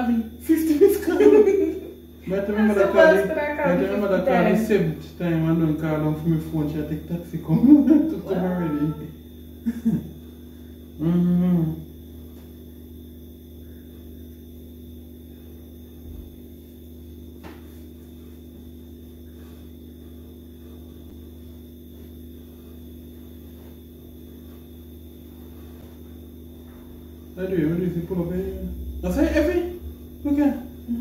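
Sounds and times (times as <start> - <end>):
electrical hum with high whine: 0.0 - 31.0.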